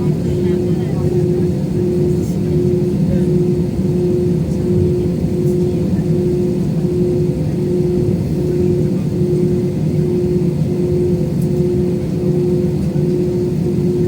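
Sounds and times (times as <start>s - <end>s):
airliner engine drone: 0.0s - 14.0s.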